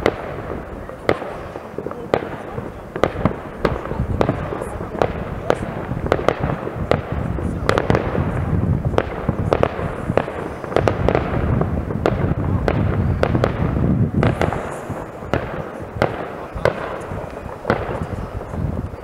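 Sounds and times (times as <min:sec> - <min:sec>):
fireworks bangs: 0:00.0 - 0:19.0
steady low rumble: 0:02.9 - 0:19.0.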